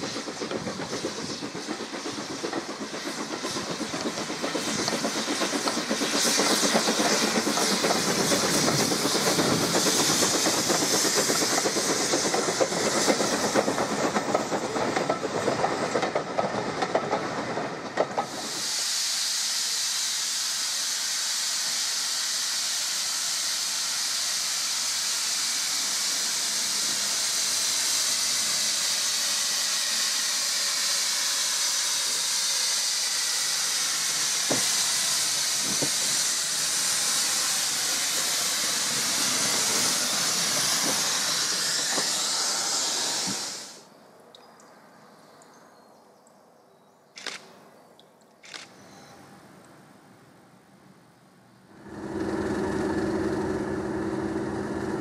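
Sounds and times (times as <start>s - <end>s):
steam locomotive venting steam: 0.0s - 43.9s, 51.7s - 55.0s.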